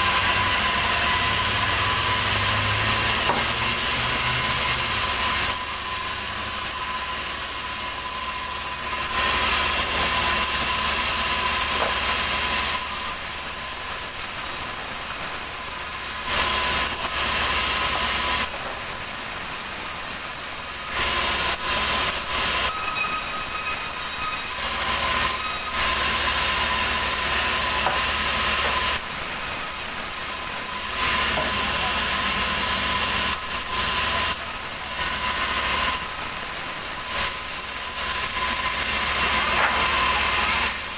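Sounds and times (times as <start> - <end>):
band saw whining: 0.0 - 19.0, 20.6 - 40.9.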